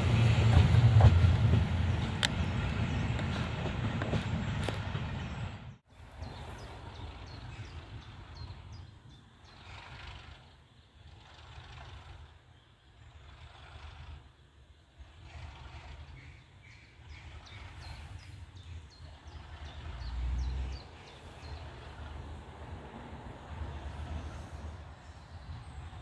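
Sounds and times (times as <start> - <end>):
small birds chirping: 4.1 - 26.0.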